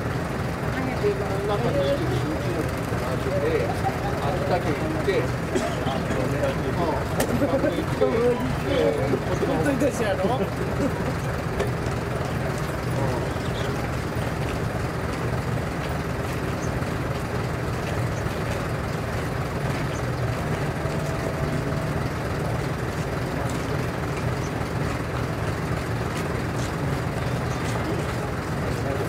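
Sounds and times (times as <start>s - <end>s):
truck diesel engine idling: 0.0s - 29.0s.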